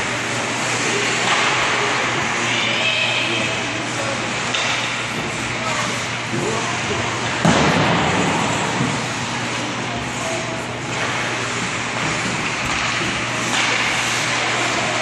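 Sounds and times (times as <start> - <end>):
ice hockey game noise: 0.0 - 15.0.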